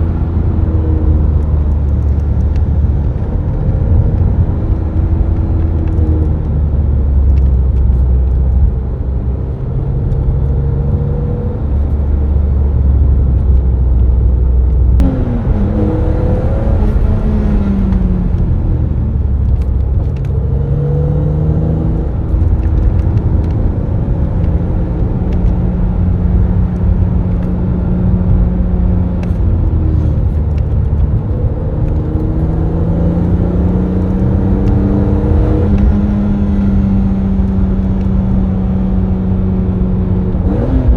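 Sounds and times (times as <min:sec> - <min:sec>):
car engine revving while driving: 0:00.0 - 0:40.9.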